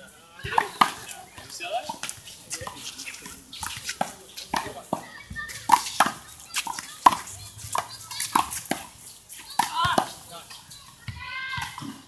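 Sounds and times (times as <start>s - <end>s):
ball bouncing on asphalt: 0.4s - 12.0s.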